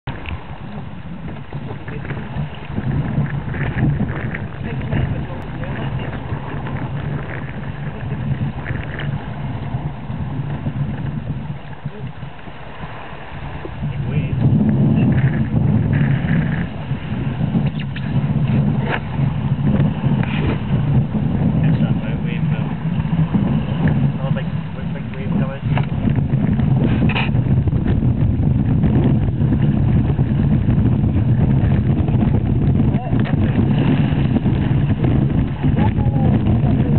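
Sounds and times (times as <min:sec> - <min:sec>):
water splashing along canoe hull: 0:00.0 - 0:36.9
wind rumble on microphone: 0:00.0 - 0:36.9.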